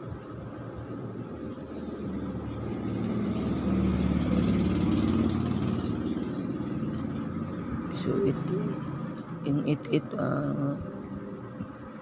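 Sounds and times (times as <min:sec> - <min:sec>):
engine running: 0:00.5 - 0:12.0.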